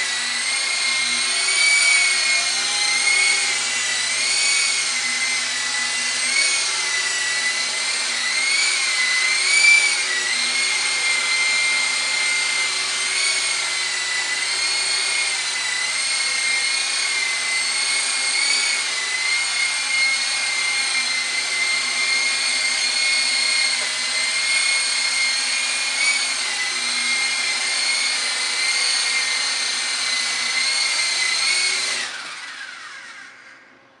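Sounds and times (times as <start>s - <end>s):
toy helicopter motor whine: 0.0s - 34.0s.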